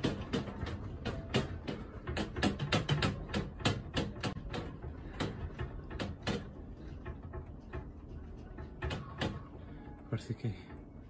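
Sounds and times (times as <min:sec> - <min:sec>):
room contents rattling in earthquake: 0:00.0 - 0:11.0.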